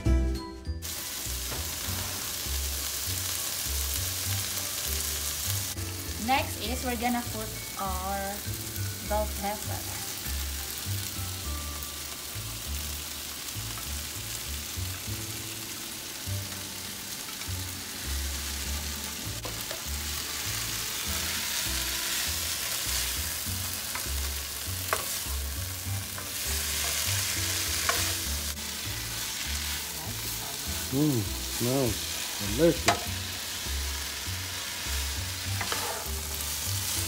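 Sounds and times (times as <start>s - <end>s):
vegetables sizzling in oil: 0.8s - 37.0s.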